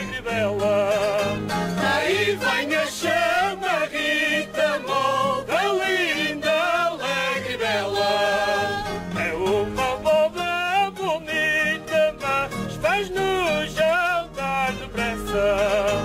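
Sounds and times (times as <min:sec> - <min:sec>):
song with singing voice: 0:00.0 - 0:16.0.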